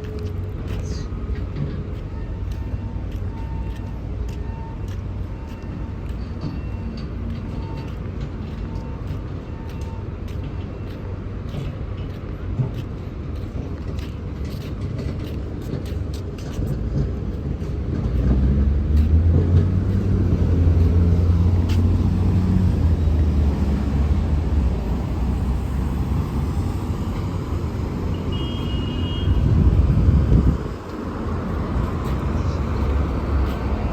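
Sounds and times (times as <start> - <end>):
large vehicle engine rumbling: 0.0 - 33.9
street traffic: 0.0 - 33.9.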